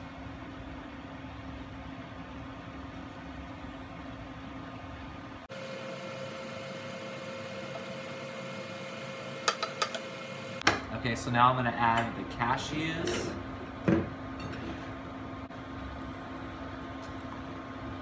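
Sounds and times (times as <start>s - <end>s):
induction cooktop hum: 0.0s - 18.0s.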